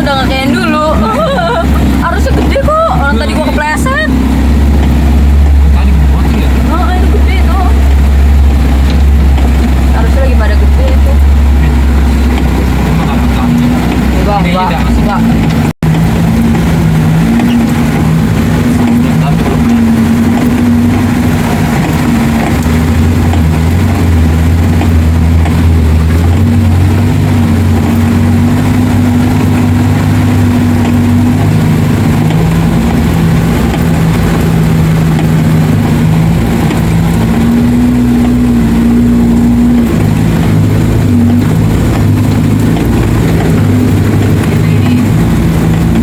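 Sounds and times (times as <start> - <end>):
engine revving: 0.0 - 46.0.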